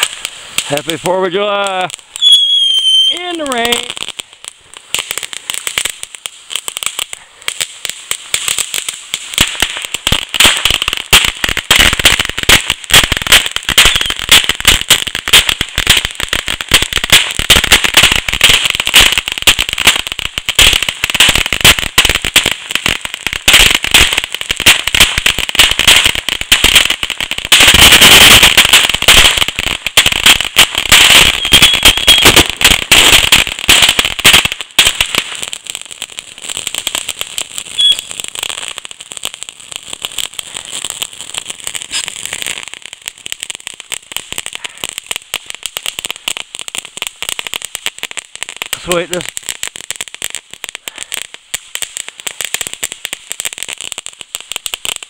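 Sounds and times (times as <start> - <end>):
fireworks popping and crackling: 0.0 - 55.0.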